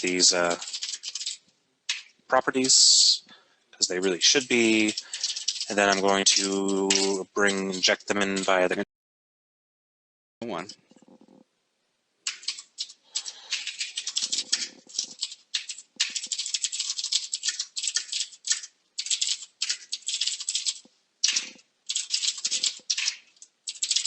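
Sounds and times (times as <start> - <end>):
computer keyboard typing: 0.0 - 3.0, 3.9 - 8.7, 12.3 - 24.0.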